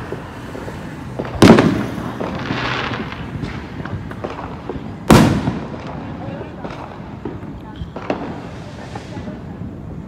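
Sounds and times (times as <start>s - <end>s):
loud firework bang: 1.1s - 9.4s.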